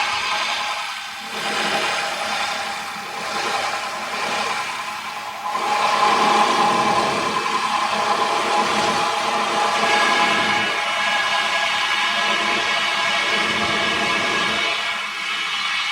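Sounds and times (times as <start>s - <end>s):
steady machine whine: 0.0s - 15.9s.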